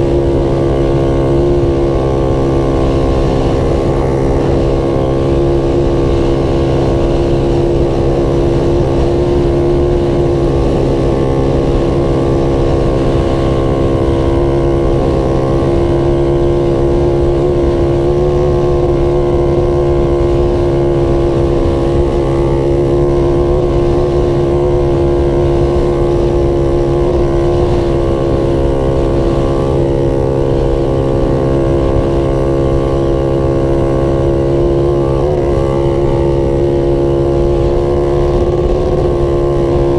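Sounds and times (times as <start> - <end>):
constant low rumble: 0.0 - 39.9
off-road vehicle engine running: 0.0 - 39.9.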